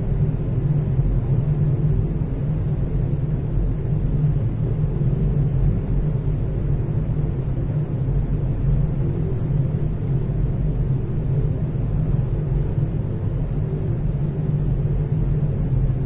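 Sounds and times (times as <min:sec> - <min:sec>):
ventilation rumble and hum: 0:00.0 - 0:16.0.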